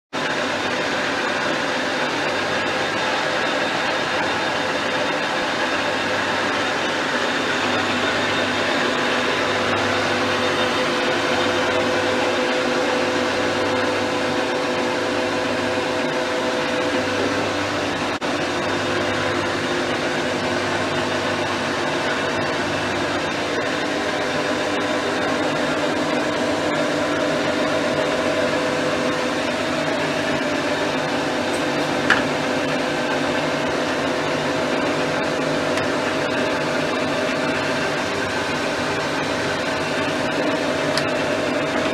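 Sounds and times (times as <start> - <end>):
lathe running with gear hum: 0.1 - 41.9.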